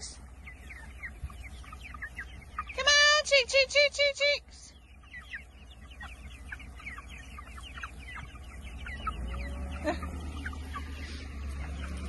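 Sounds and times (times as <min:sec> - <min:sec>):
chicks peeping and chirping: 0:00.0 - 0:12.0.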